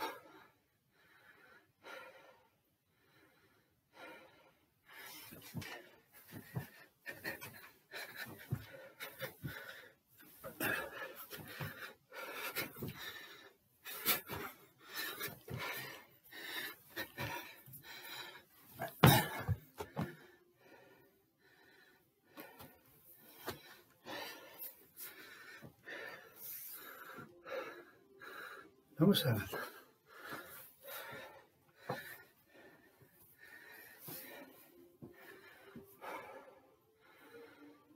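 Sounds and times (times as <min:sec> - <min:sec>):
man breathing hard and wheezing: 0:00.0 - 0:37.9.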